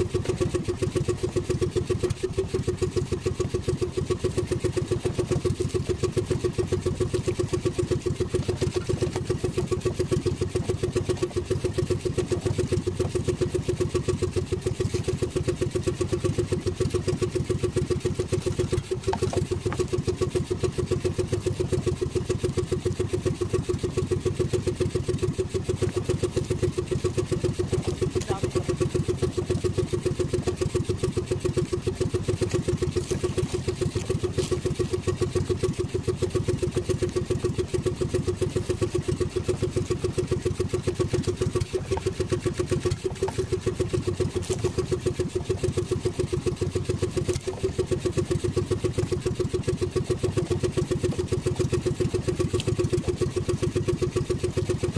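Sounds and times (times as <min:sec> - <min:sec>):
boat engine idling: 0:00.0 - 0:54.9.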